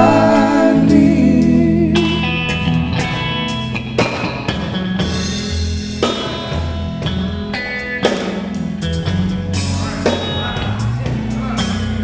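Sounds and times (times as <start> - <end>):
drum kit steady beat: 0.0 - 12.0
electric guitars sustaining chords: 0.0 - 12.0.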